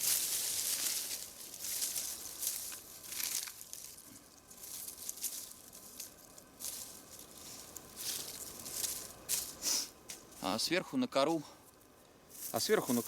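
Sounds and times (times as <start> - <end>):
dry bark crinkling and rustling: 0.0 - 10.7, 11.6 - 13.0.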